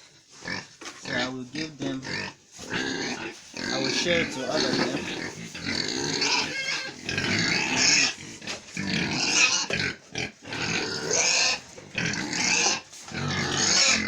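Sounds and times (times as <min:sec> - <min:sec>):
pigs squealing and grunting: 0:00.3 - 0:14.0.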